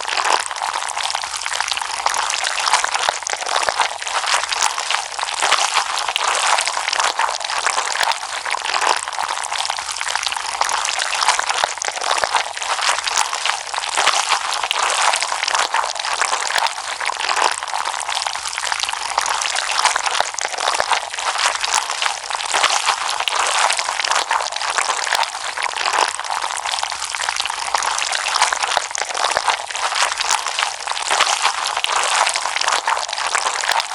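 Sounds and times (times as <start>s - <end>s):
slime wet pops and crackles: 0.0s - 33.9s.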